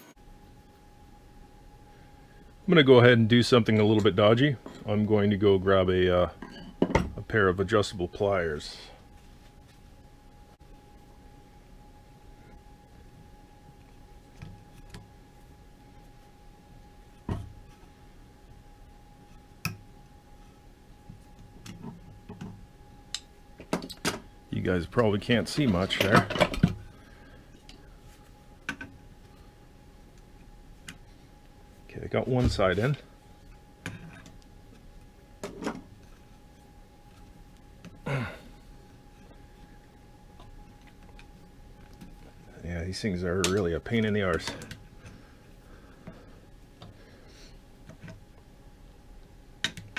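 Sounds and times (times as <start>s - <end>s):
faint high hum: 0.0s - 49.9s.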